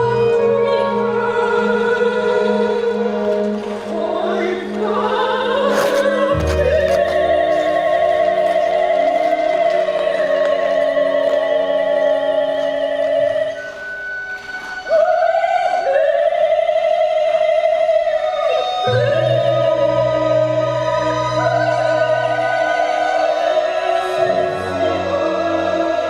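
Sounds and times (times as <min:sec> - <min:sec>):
operatic voice singing with vibrato: 0:00.0 - 0:26.0.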